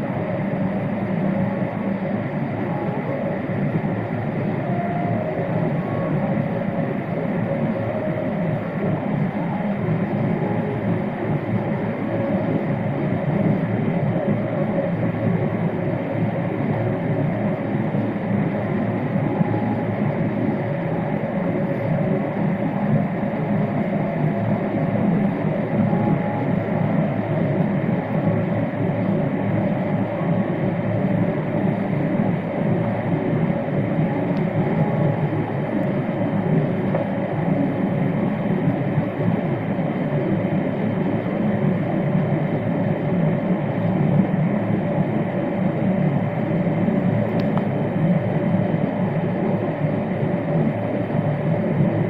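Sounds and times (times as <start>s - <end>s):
faint steady tones: 0.0s - 52.0s
jet engine rumble: 0.0s - 52.0s.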